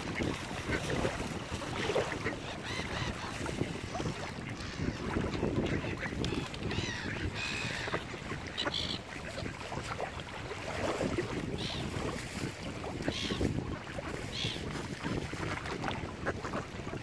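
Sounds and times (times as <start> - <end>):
water lapping at shore: 0.0 - 17.0
wind buffeting microphone: 0.0 - 17.0.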